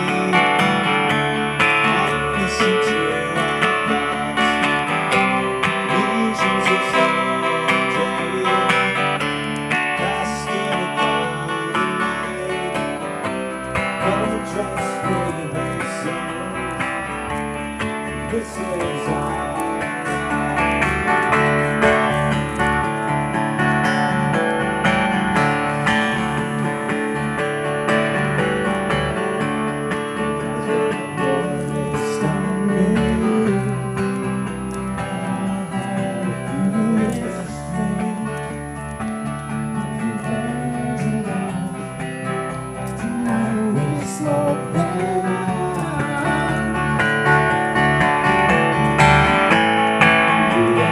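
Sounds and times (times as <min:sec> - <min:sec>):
acoustic guitars playing: 0:00.0 - 0:50.9.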